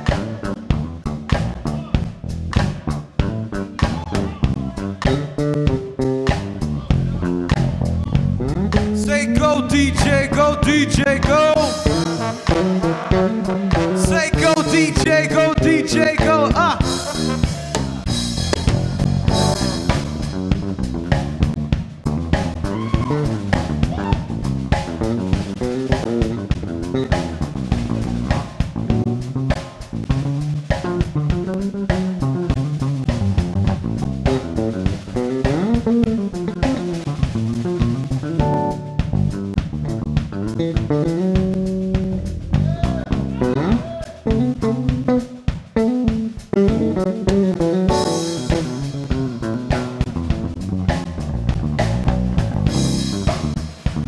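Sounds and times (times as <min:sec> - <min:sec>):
drum kit: 0:00.0 - 0:54.0
electric bass guitar melody: 0:00.0 - 0:54.0.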